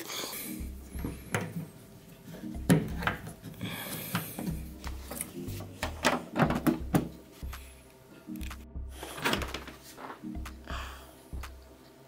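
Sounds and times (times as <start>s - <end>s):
background music with bass line: 0.5s - 1.4s, 2.4s - 11.9s.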